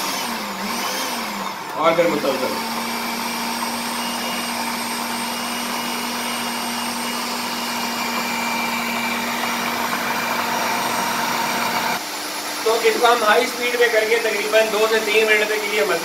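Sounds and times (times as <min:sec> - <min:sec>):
food processor motor humming: 0:00.0 - 0:16.0.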